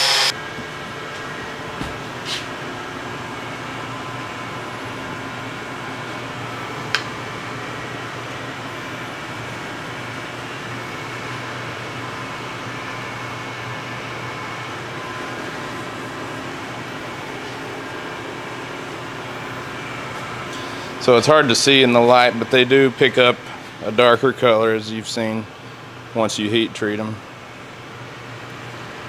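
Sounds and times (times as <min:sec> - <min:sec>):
steady mechanical fan hum: 0:00.0 - 0:29.0.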